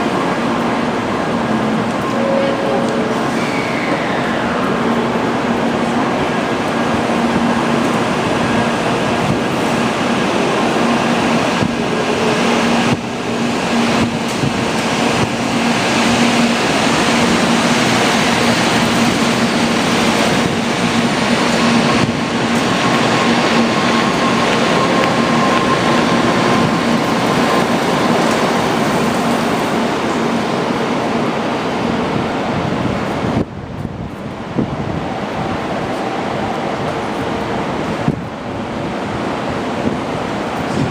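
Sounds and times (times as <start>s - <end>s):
train rumble at station: 0.0s - 40.9s.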